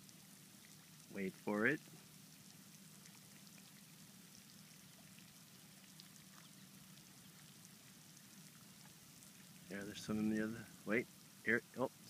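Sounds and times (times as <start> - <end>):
fountain spraying faintly: 0.0 - 12.0.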